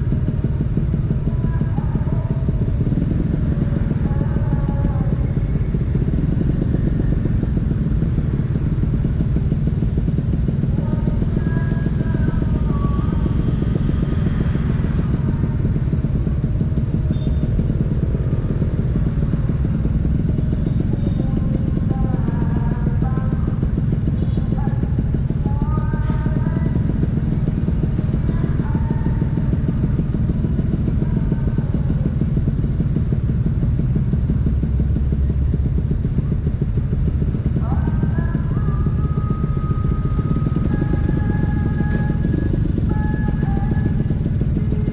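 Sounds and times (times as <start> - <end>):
scooter engine running: 0.0 - 44.9.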